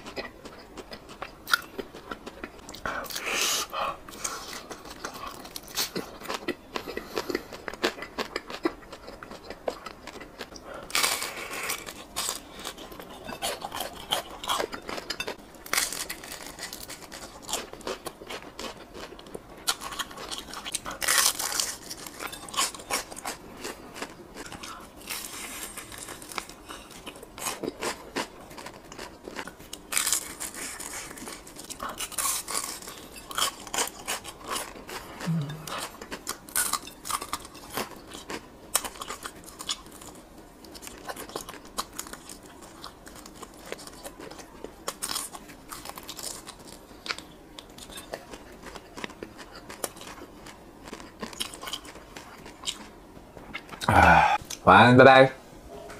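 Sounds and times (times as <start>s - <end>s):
chewing crunchy food: 0.0s - 54.6s.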